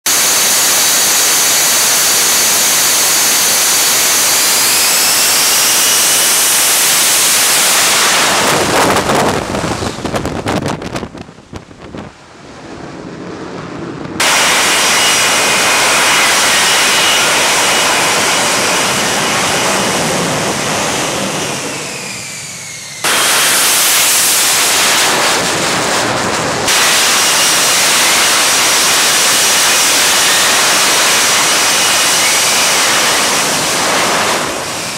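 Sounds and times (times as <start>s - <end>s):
jet engine roaring: 0.0s - 34.9s.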